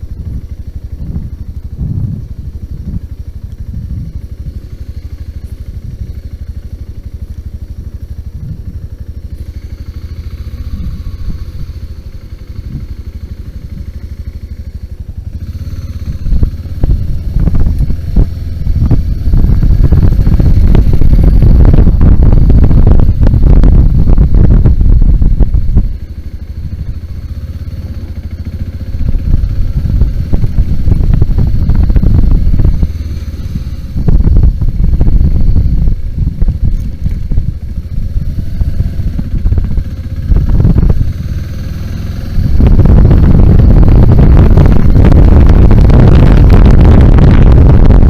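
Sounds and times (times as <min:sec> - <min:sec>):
motorcycle engine revving: 0:00.0 - 0:48.0
wind rumble on microphone: 0:00.0 - 0:48.0.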